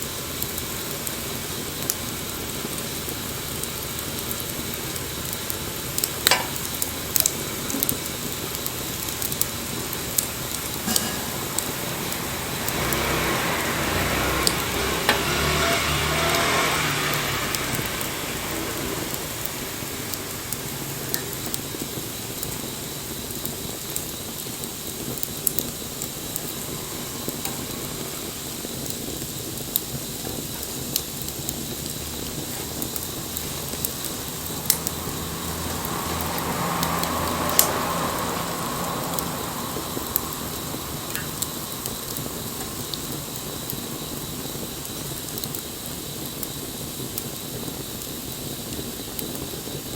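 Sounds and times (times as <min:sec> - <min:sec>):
distant engine hum: 0:00.0 - 0:46.9
fire crackles and pops: 0:00.0 - 0:49.9
wood fire hissing: 0:00.0 - 0:49.9.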